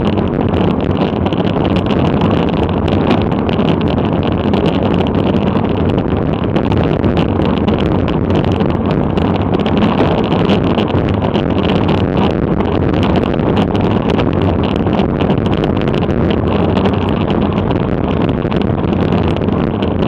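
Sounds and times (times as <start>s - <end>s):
short crackles: 0.0s - 20.0s
wind rushing over microphone: 0.0s - 20.0s.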